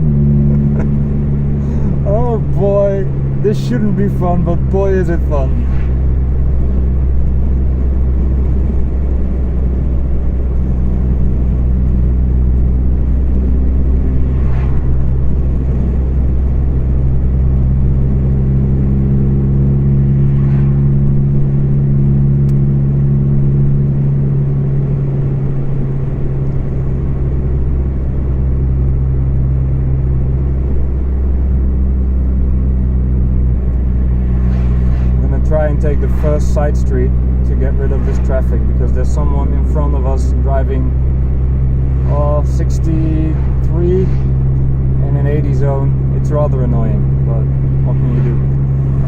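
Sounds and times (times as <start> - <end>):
car engine drone through loose exhaust: 0.0 - 49.0.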